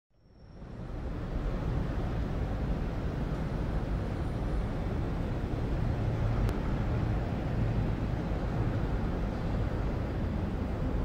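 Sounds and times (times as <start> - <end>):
road traffic rumble: 0.3 - 11.0.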